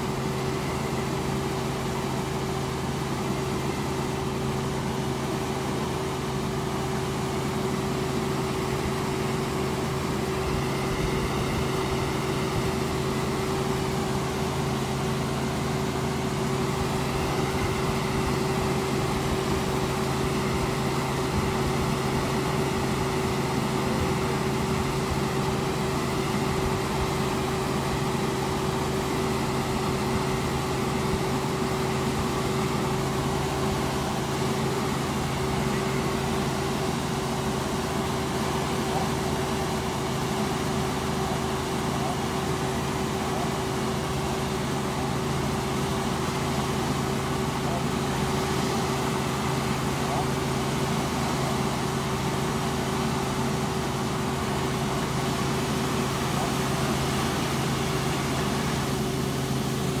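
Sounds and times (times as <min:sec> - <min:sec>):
helicopter engine and rotor drone: 0:00.0 - 1:00.0.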